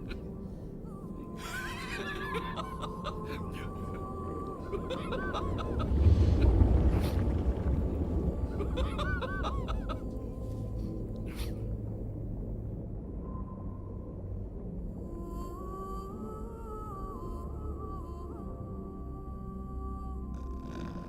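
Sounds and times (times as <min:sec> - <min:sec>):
low rumble: 0:02.5 - 0:20.9.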